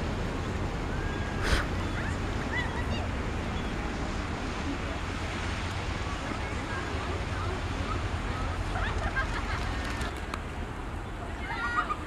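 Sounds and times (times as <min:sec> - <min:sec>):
small surf washing: 0:00.0 - 0:12.0.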